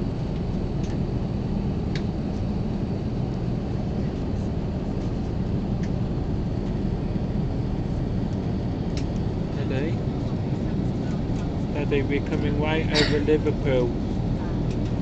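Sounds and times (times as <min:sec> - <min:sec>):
airplane cabin engine roar: 0:00.0 - 0:15.0.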